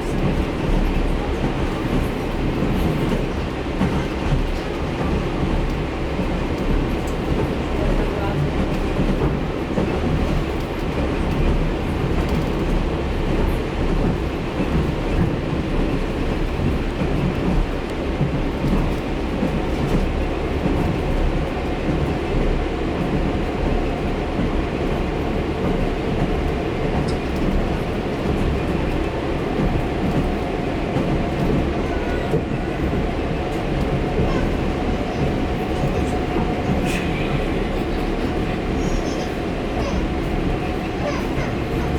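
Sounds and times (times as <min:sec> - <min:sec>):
diesel locomotive rumbling: 0:00.0 - 0:41.9.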